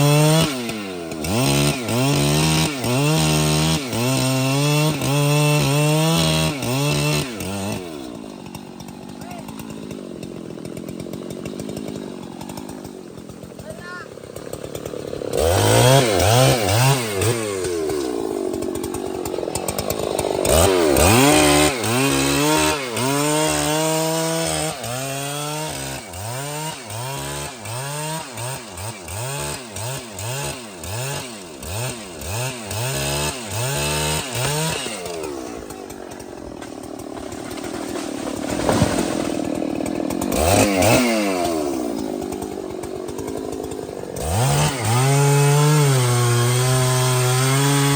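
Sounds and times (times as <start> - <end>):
chainsaw revving in timber: 0.0 - 47.9.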